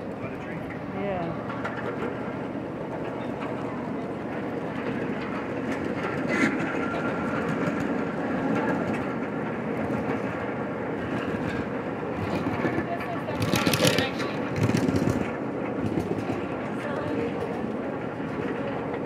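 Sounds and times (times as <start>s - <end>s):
train cars rumbling and rattling: 0.0s - 19.0s.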